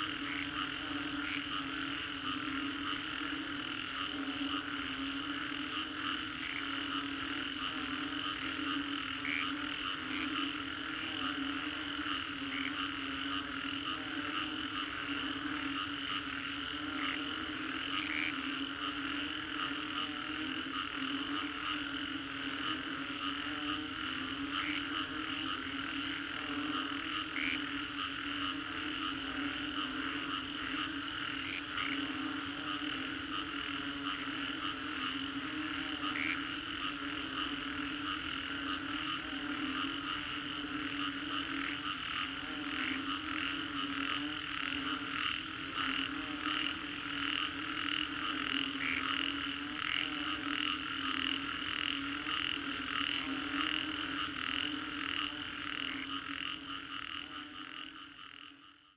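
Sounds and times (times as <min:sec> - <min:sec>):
chorus of frogs calling: 0:00.0 - 0:58.9
sharp single frog calls: 0:00.0 - 0:58.9.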